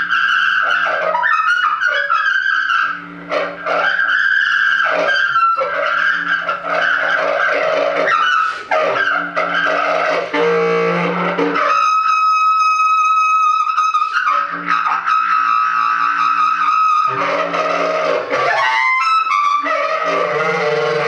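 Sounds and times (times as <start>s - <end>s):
bass clarinet multiphonics: 0.0s - 21.0s.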